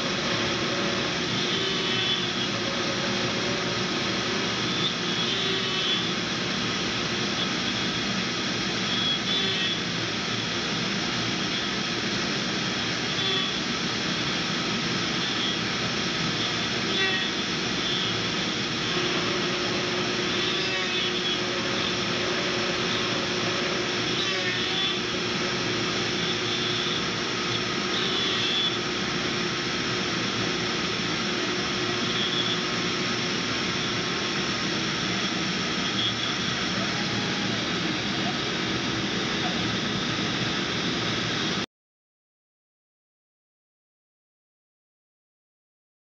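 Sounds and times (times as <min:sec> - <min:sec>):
milling machine cutting metal: 0:00.0 - 0:41.6
steady spindle whine: 0:00.0 - 0:41.6.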